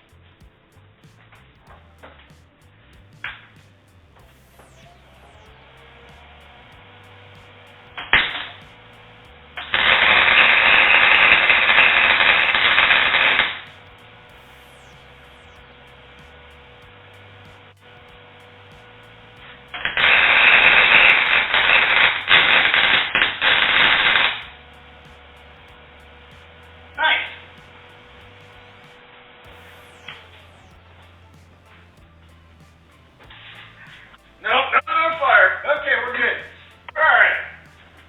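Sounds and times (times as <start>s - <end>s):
welding arc crackling: 0.0s - 38.0s.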